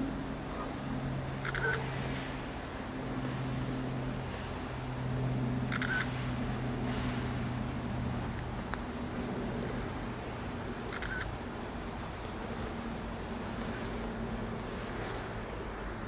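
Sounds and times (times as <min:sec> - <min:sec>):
outdoor background noise: 0:00.0 - 0:16.0
steady low hum: 0:00.0 - 0:16.0.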